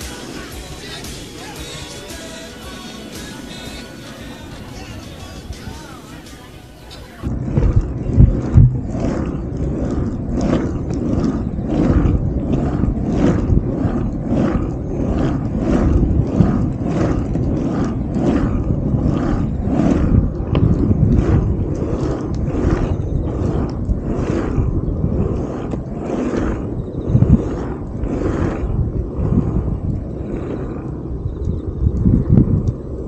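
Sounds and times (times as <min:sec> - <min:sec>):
longboard wheels rolling on asphalt: 0:00.0 - 0:33.0.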